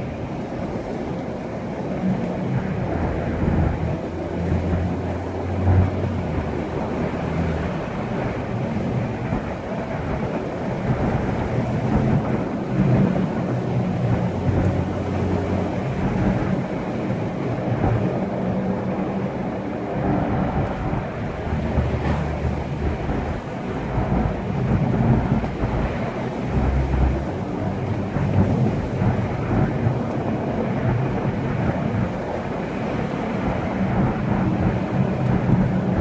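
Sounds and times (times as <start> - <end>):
car engine hum: 0.0 - 36.0
tyre and road rumble: 0.0 - 36.0.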